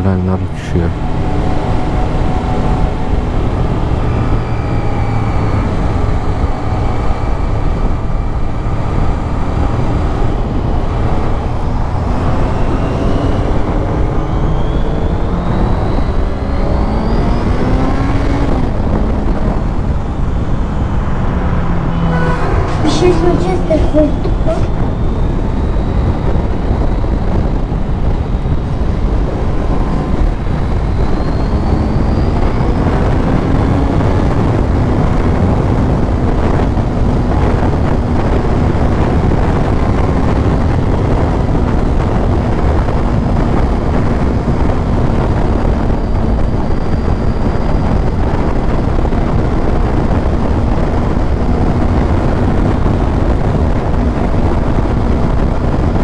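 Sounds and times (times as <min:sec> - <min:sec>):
wind rush on microphone: 0:00.0 - 0:56.0.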